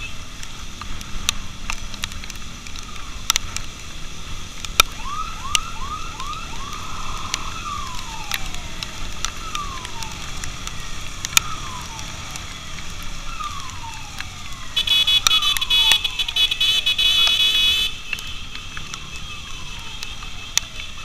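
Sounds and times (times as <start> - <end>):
road noise: 0.0 - 21.0
motorcycle siren whooping and wailing: 2.0 - 21.0.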